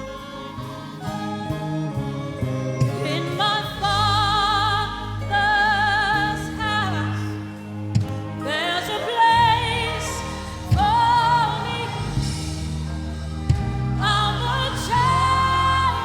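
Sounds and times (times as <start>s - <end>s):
band playing: 0.0s - 16.0s
person singing: 0.0s - 16.0s.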